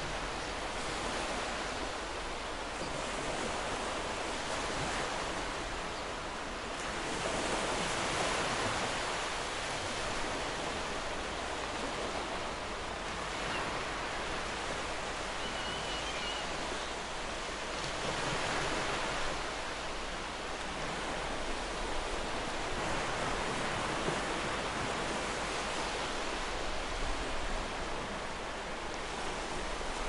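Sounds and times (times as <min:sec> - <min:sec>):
surf washing on shore: 0:00.0 - 0:30.0.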